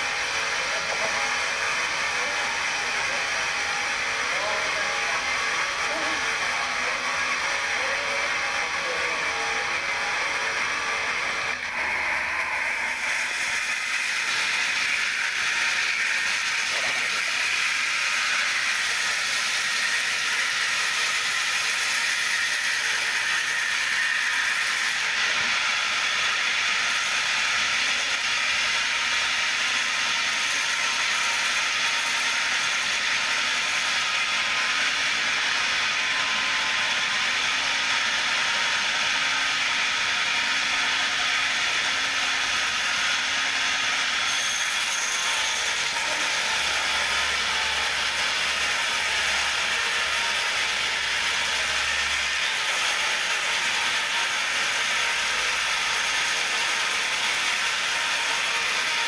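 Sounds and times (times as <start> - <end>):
bandsaw mill whining: 0.0 - 59.0.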